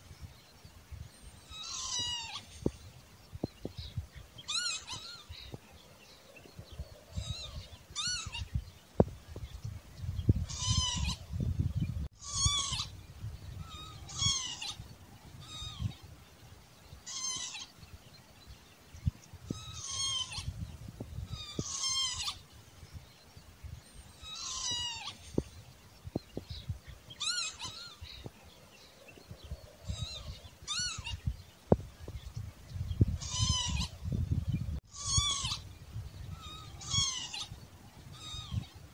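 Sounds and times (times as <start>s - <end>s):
lapwing calling: 1.3s - 2.9s, 3.7s - 5.6s, 6.2s - 8.7s, 10.3s - 16.1s, 17.0s - 17.9s, 19.1s - 22.6s, 23.8s - 38.9s.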